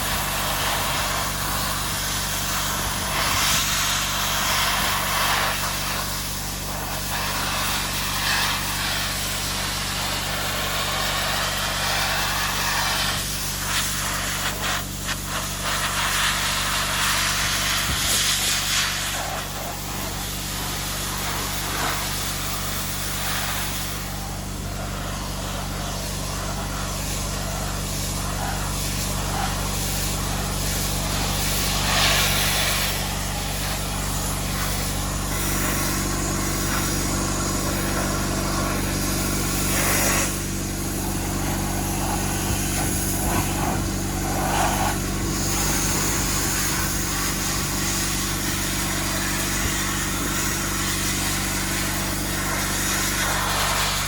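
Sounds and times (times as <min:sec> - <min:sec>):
engine running: 0:00.0 - 0:54.0
hissing air bursts: 0:00.0 - 0:54.0.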